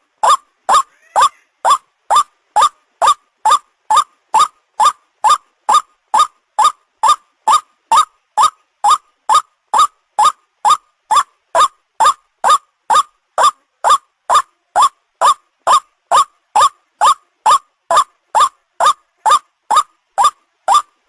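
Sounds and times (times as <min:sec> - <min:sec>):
repeated rising bird call: 0:00.0 - 0:21.0.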